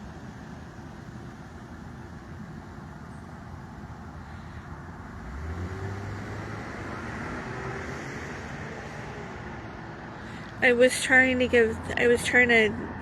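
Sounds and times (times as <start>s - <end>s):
passing vehicle engine hum: 0.0s - 13.0s
road traffic rumble: 0.0s - 13.0s.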